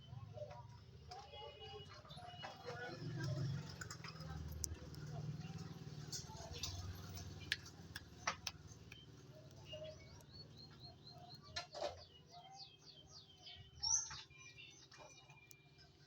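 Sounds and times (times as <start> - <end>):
birds chirping: 2.0 - 15.6.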